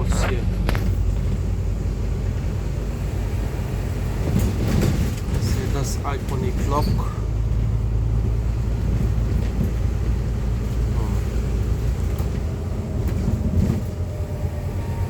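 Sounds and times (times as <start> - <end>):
bus engine drone: 0.0 - 15.0
road rumble: 0.0 - 15.0.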